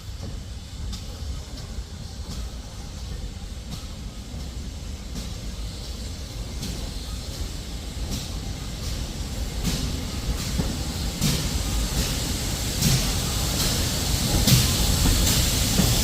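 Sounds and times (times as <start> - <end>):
steam locomotive exhaust beats: 0.0 - 16.0.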